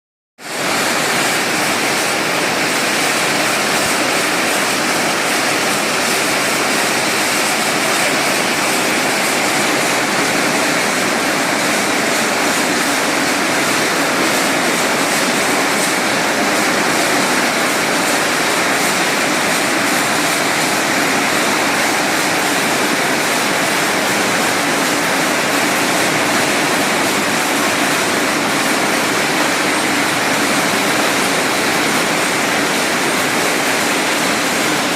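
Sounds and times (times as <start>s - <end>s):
nut shelling machine running: 0.5s - 34.9s.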